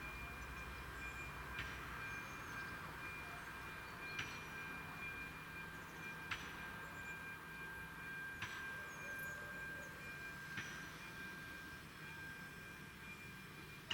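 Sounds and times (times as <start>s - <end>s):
level crossing warning bell: 0.0s - 13.9s.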